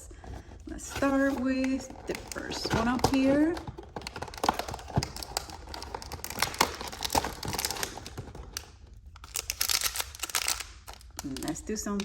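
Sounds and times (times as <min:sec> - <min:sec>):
handling cardboard and plastic packaging: 0:00.0 - 0:12.0.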